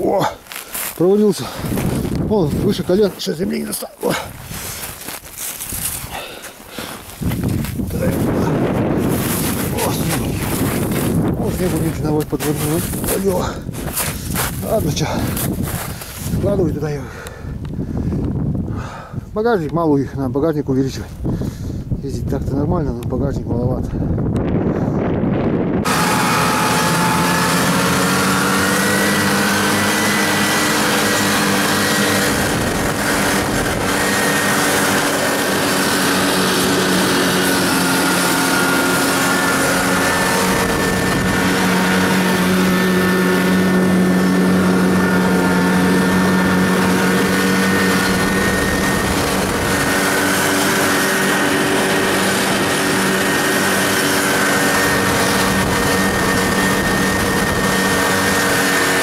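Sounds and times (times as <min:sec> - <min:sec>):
snowmobile engine running: 0:00.0 - 0:18.2, 0:24.5 - 0:59.0.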